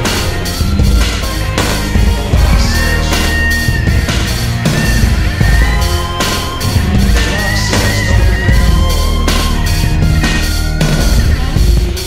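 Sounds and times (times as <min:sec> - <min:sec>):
rock music with deep bass beat: 0:00.0 - 0:12.0.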